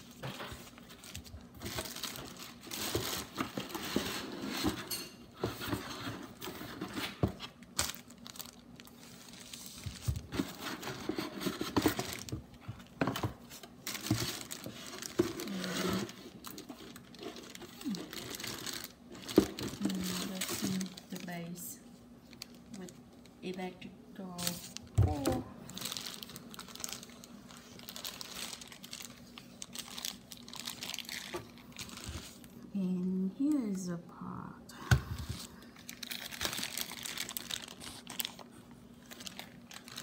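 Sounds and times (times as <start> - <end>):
plastic and paper crinkling: 0.0 - 32.6, 35.1 - 40.0.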